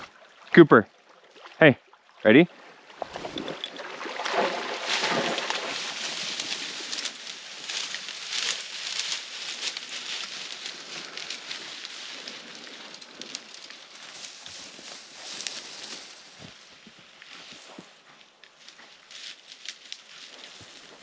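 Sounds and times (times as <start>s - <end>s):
dry reeds rustling and crackling: 3.1s - 21.0s.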